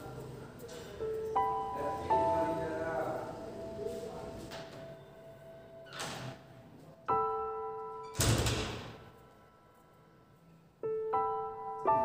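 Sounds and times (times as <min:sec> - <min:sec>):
sparse piano notes: 0:00.0 - 0:12.0.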